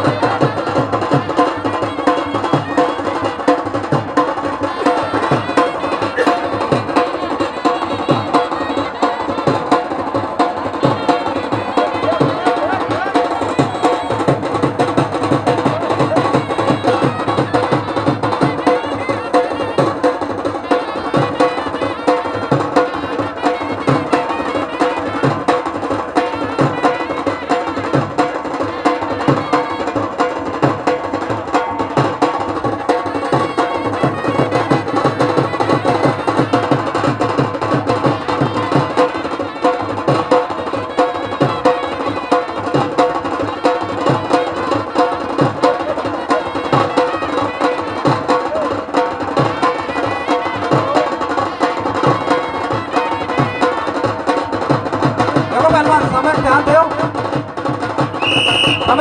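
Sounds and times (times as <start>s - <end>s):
fast drum beat: 0.0s - 59.0s.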